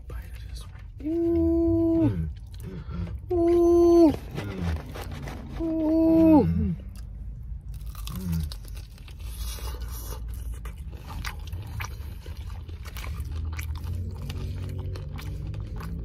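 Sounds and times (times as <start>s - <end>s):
crunchy chewing of fried chicken: 0.0s - 16.0s.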